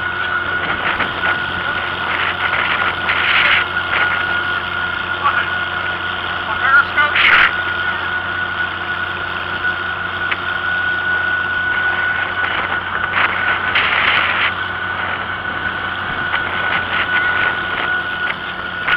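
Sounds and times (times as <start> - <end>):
steady high whine: 0.0 - 18.9
tractor engine running: 0.0 - 18.9.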